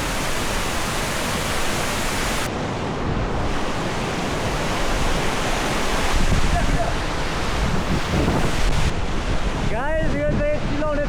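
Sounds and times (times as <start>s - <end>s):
waterfall roaring: 0.0s - 9.9s.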